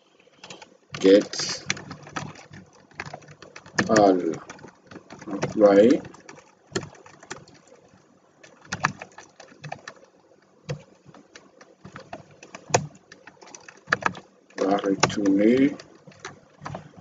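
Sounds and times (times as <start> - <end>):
keyboard keys clicking: 0.3 - 17.0.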